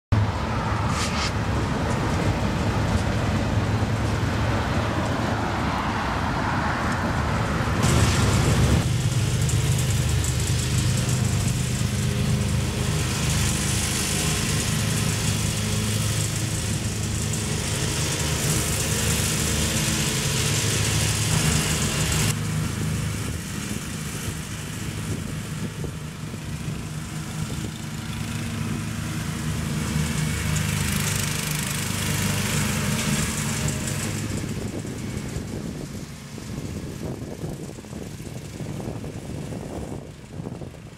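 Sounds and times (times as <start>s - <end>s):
diesel freight train passing: 0.1s - 40.9s
riding lawn mower engine: 0.1s - 40.9s
road traffic: 0.1s - 40.9s.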